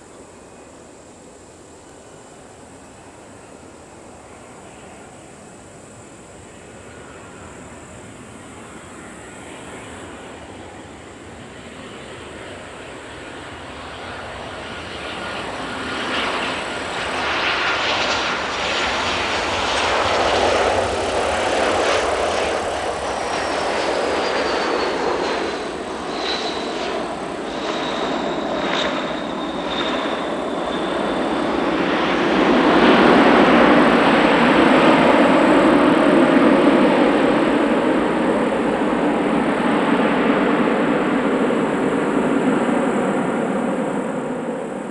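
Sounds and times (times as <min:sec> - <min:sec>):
jet airliner roar: 0:00.0 - 0:44.9.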